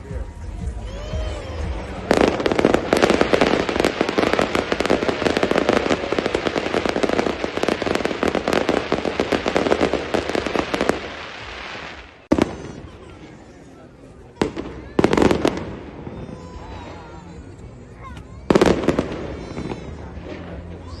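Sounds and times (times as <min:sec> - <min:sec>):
firecrackers bursting: 0:01.1 - 0:17.5, 0:18.5 - 0:20.9.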